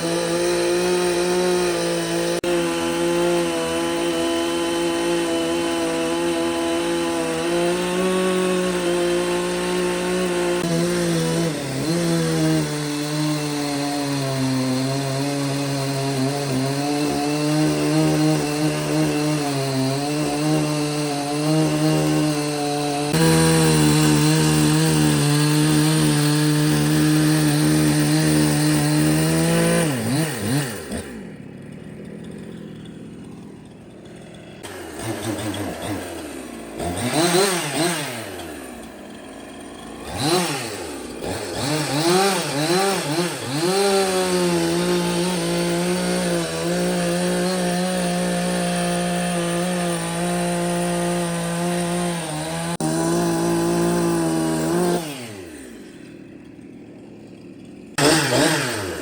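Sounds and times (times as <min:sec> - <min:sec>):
power tool motor revving: 0:00.0 - 0:59.0.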